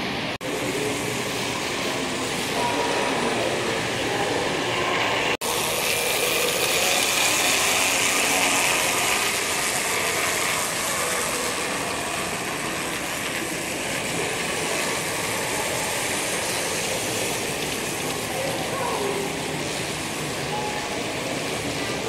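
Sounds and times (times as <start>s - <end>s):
model streetcar motor whirring: 0.0s - 22.0s
noisy room background: 0.0s - 22.0s.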